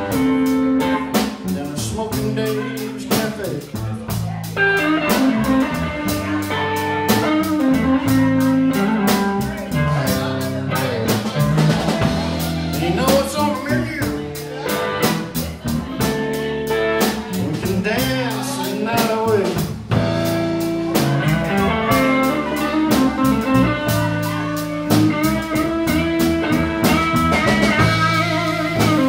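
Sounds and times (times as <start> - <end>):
bass: 0.0 - 29.0
drum kit beat: 0.0 - 29.0
electric guitar: 0.0 - 29.0.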